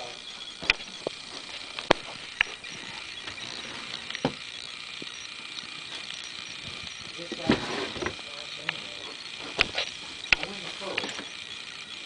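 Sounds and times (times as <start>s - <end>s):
sharp clicks and knocks: 0.0s - 11.4s
steady hiss: 0.0s - 12.0s.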